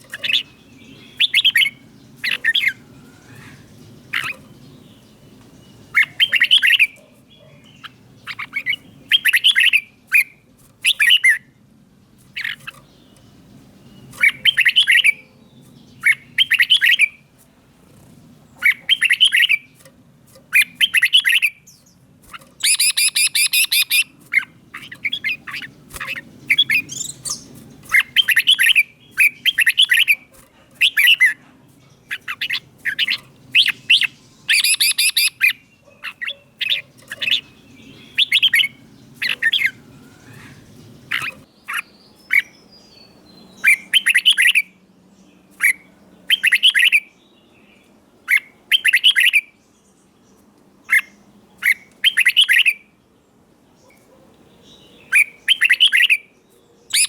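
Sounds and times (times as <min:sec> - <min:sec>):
bulbul singing whistled phrases: 0:00.1 - 0:05.1, 0:05.7 - 0:11.6, 0:13.8 - 0:17.3, 0:18.6 - 0:19.7, 0:20.5 - 0:22.0, 0:22.6 - 0:31.4, 0:32.0 - 0:44.8, 0:45.6 - 0:49.6, 0:50.9 - 0:52.9, 0:54.8 - 0:56.3.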